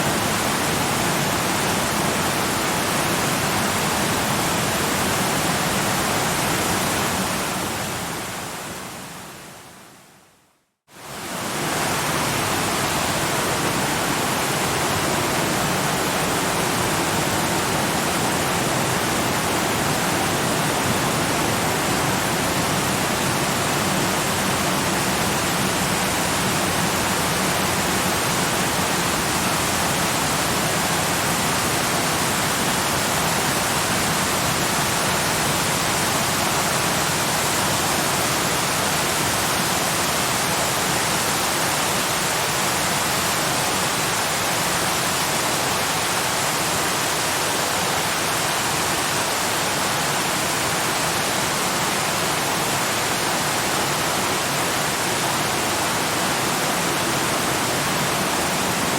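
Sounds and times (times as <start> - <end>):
waterfall rushing: 11.0 - 58.9.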